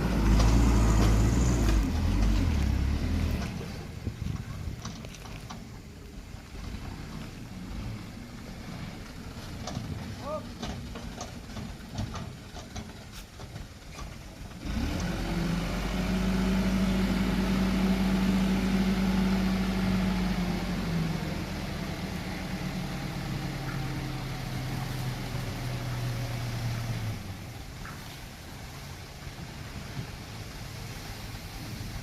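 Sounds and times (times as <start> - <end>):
diesel truck engine: 0.0 - 32.0.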